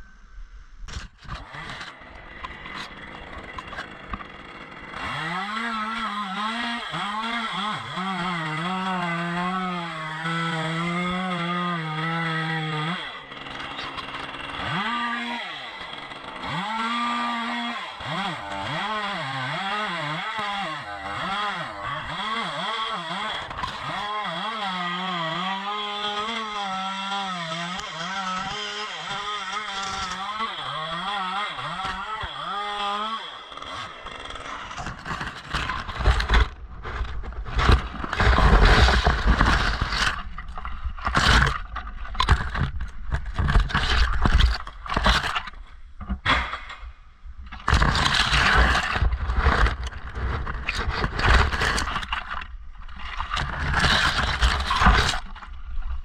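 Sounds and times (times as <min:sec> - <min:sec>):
chainsaw cutting wood: 0:00.9 - 0:56.0.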